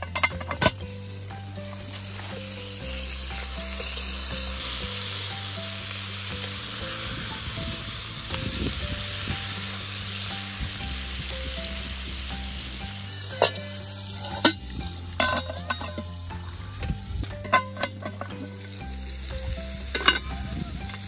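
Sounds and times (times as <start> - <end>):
steak sizzling in a pot: 0.0 - 21.0.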